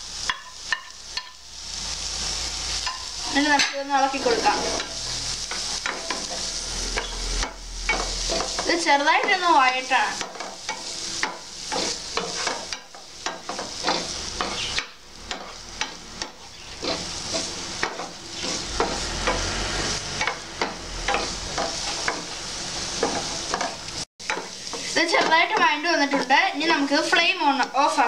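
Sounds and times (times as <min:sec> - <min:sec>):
vegetables sizzling in oil: 0:00.0 - 0:28.0
wooden spatula scraping a pan: 0:02.2 - 0:28.0.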